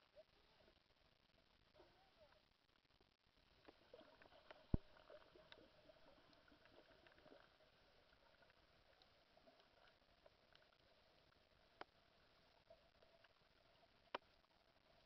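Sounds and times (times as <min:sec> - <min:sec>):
underwater clicks and crackles: 0:00.0 - 0:15.0.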